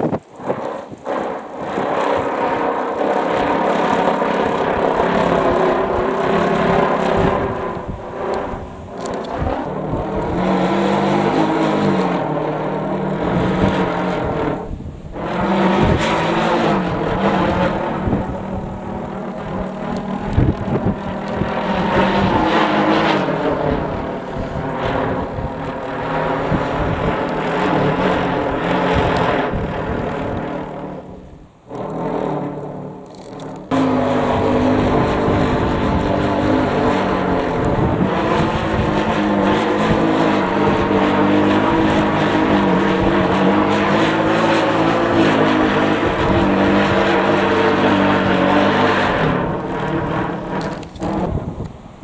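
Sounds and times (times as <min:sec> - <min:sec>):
kite fluttering and humming: 0:00.0 - 0:52.0
strong wind rushing: 0:00.0 - 0:52.0.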